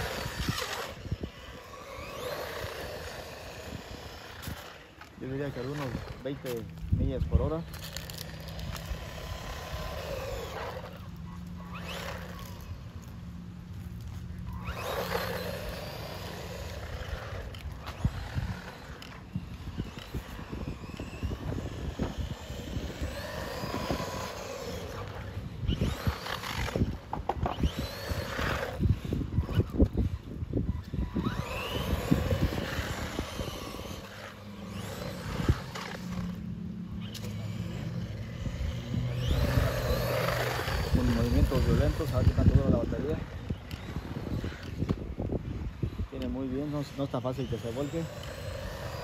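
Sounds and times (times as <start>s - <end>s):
rc truck motor whining: 0.0s - 49.0s.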